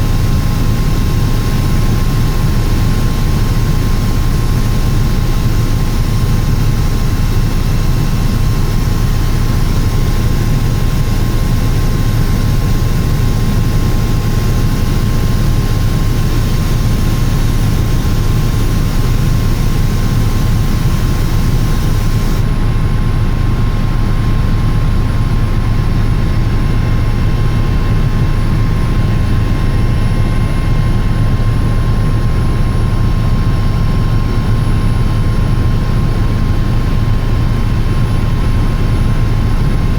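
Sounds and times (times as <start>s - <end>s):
helicopter rotor and turbine drone: 0.0s - 39.9s
thin steady whine: 0.0s - 39.9s.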